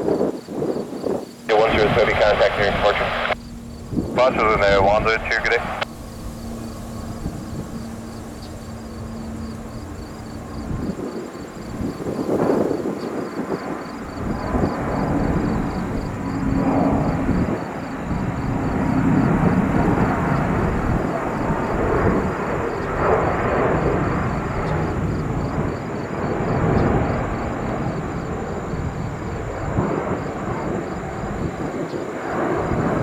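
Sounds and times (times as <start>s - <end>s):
jet engine rumble: 0.0s - 33.0s.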